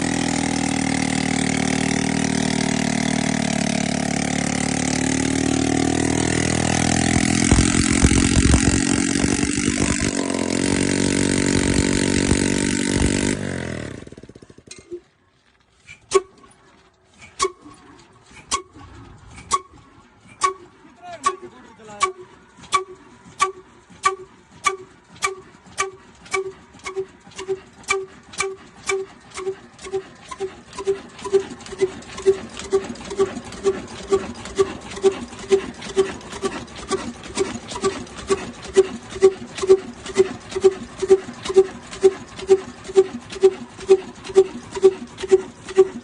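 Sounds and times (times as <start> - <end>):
old diesel engine running: 0.0 - 46.0.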